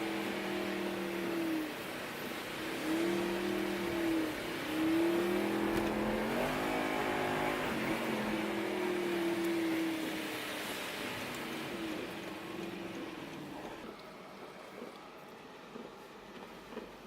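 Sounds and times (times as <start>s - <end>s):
car engine accelerating: 0.0s - 14.1s.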